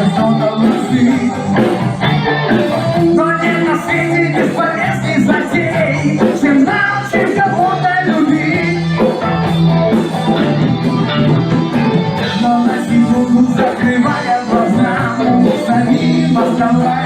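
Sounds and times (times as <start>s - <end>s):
person singing: 0.0s - 9.5s, 11.8s - 17.0s
band playing a song: 0.0s - 17.0s.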